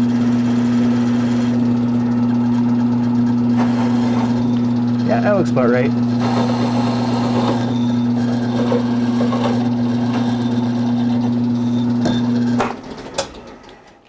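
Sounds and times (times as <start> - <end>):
milling machine motor humming: 0.0 - 14.0.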